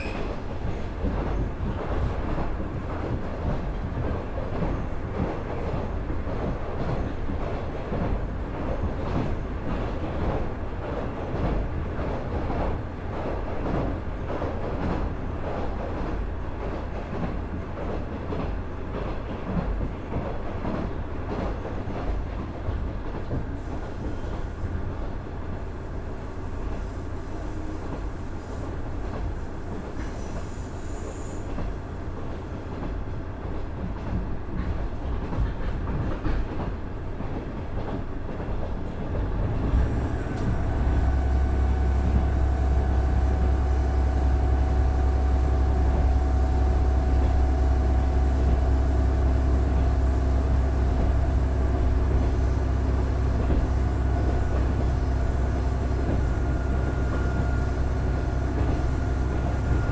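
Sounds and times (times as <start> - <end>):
track and wheel rumble: 0.0 - 59.9.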